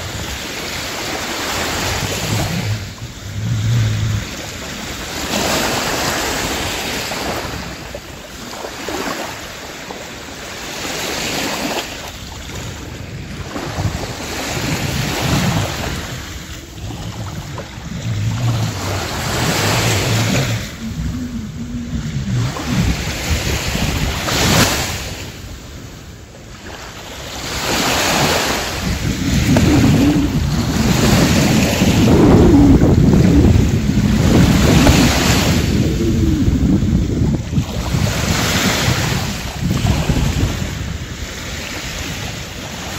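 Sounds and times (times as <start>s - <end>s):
waves washing on sandy beach: 0.0s - 42.9s
wind buffeting microphone: 0.0s - 42.9s.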